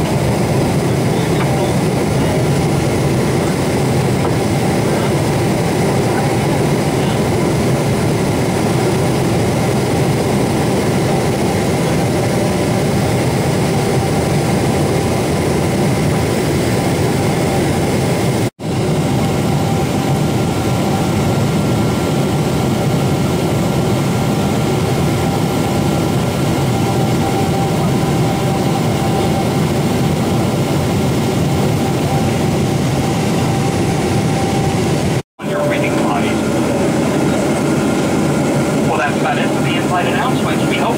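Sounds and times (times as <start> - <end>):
jet engine and airflow noise: 0.0 - 40.9.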